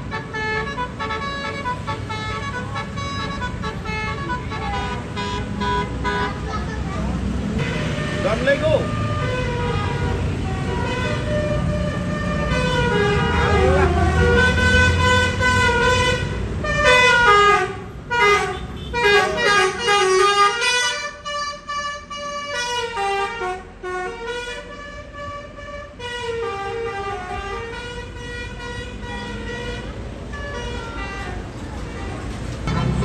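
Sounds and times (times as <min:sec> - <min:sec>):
musical bus horn playing tune: 0:00.0 - 0:06.5, 0:07.6 - 0:31.5, 0:32.7 - 0:33.0
bus engine rumble: 0:00.0 - 0:33.0.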